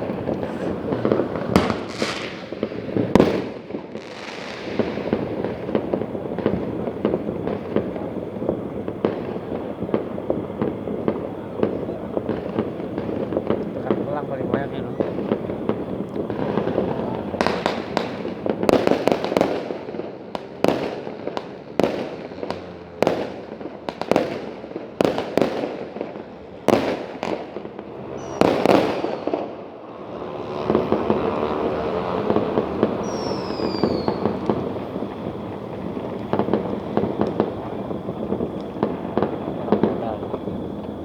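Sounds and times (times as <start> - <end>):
background noise: 0.0 - 41.0
falling firework whistles: 0.0 - 41.0
fireworks bangs: 0.0 - 41.0.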